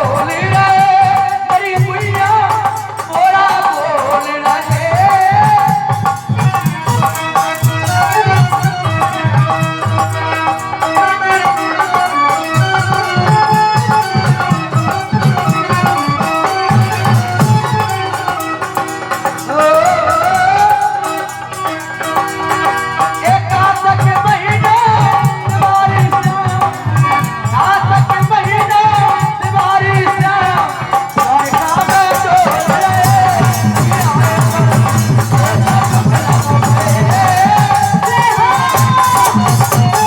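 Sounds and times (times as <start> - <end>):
rattling percussion: 0.0 - 40.0
steady drum beat: 0.0 - 40.0.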